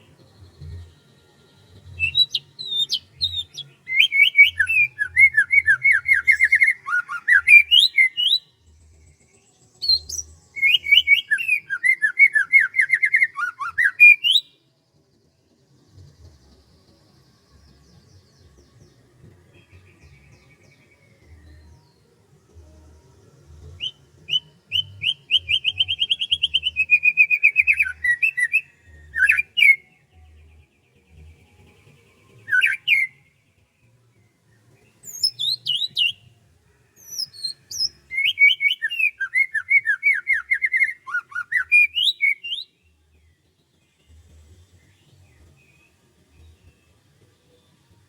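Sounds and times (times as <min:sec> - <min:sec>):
songbird chirping: 0:00.0 - 0:48.0.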